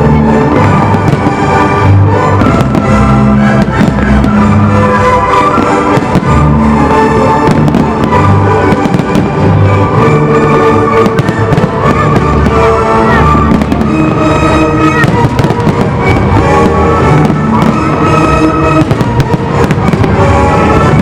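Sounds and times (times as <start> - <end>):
fireworks bursting and crackling: 0.0 - 21.0
loud music with sustained notes: 0.0 - 21.0.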